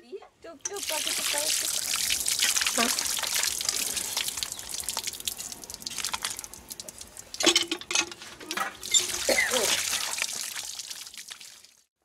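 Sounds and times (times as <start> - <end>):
water running through colander: 0.6 - 11.8
water splashing and dripping: 0.7 - 11.9.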